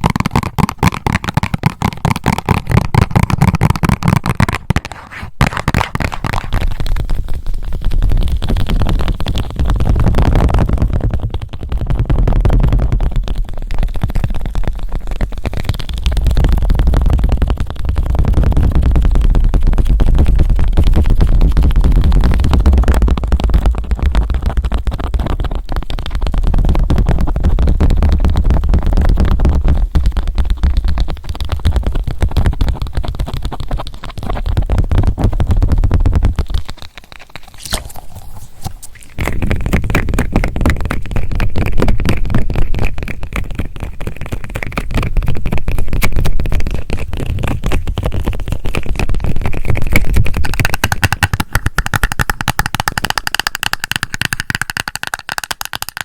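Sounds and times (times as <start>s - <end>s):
squishy toy crackling and scraping: 0.0s - 56.0s
tapping and scratching on compact: 0.0s - 56.0s.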